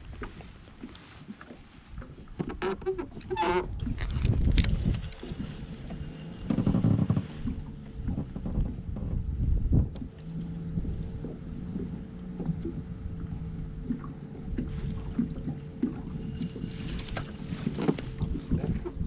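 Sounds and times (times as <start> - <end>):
waves slapping boat hull: 0.0 - 19.0
wind buffeting microphone: 3.1 - 19.0
steady low hum: 3.6 - 19.0.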